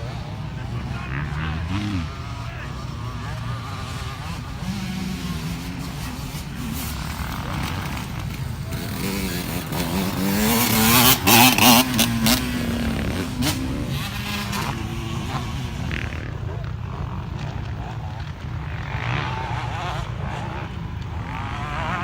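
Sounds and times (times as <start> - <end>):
motocross motorcycle engines: 0.0 - 22.0.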